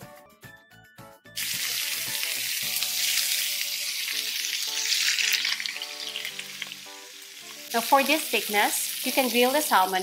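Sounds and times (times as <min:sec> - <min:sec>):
fish sizzling in hot oil: 0:01.4 - 0:10.0.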